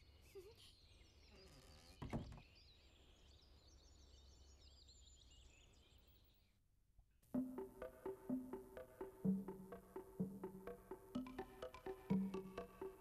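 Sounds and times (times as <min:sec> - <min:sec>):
birds chirping: 0:00.0 - 0:06.6, 0:07.4 - 0:13.0.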